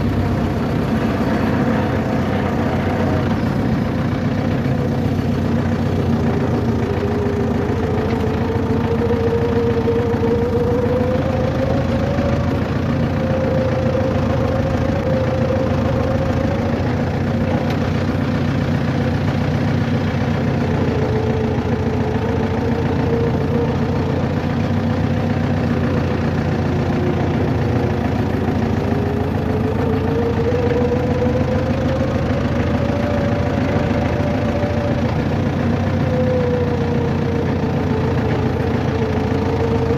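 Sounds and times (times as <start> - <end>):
vehicle engine and road drone: 0.0 - 39.9.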